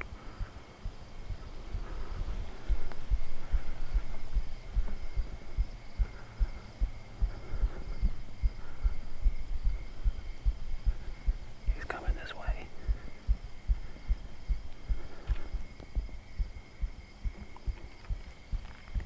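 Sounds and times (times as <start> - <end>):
heartbeat thumping: 0.0 - 19.0.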